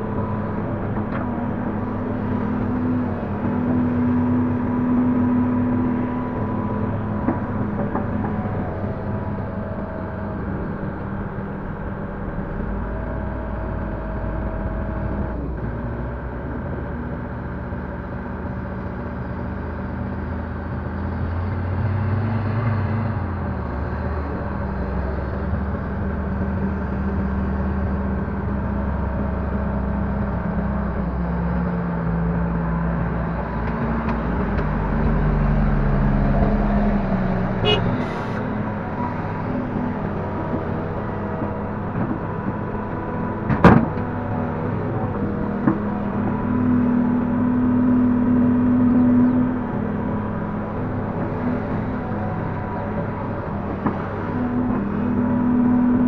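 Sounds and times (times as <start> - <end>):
excavator diesel engine working: 0.0 - 56.0.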